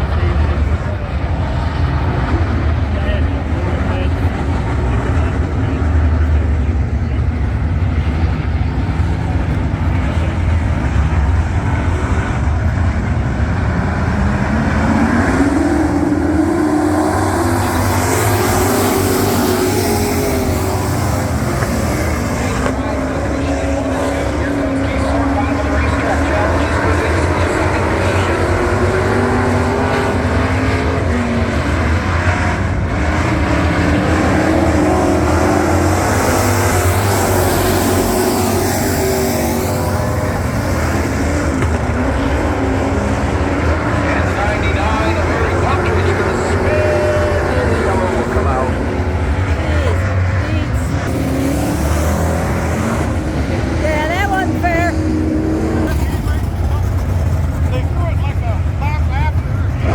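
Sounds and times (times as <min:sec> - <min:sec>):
truck engines rumbling: 0:00.0 - 0:59.9.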